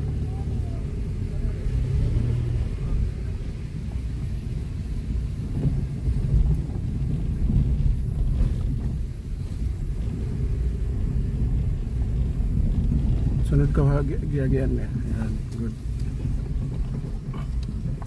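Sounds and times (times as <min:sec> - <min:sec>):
car rumbling over dirt road: 0:00.0 - 0:18.0.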